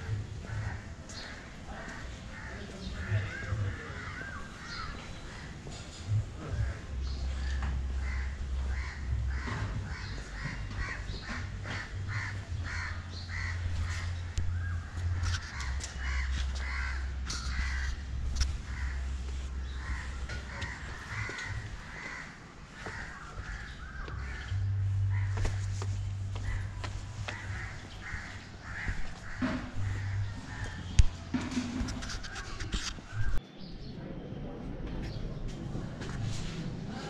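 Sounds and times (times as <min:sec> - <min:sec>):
crows cawing: 0:00.0 - 0:33.4.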